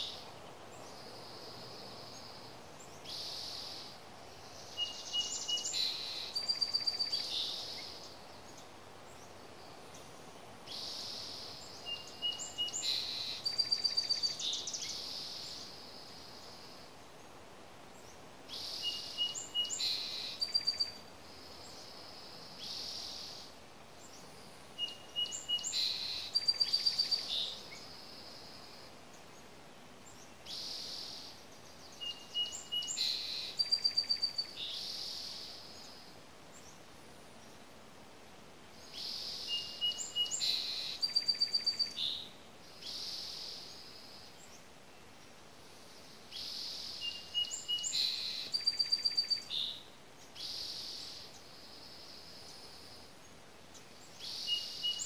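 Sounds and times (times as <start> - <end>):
songbird singing with trill: 0.0 - 16.7, 17.9 - 36.8, 38.8 - 45.3, 46.0 - 55.0.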